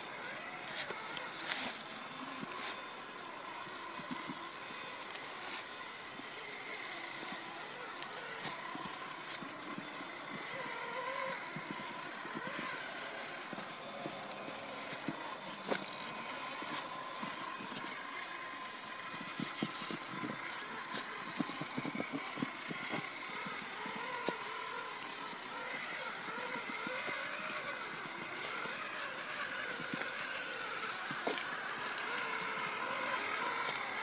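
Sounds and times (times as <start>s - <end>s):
toy truck motor whining: 0.0s - 34.0s
tyres crunching and clicking: 0.0s - 34.0s.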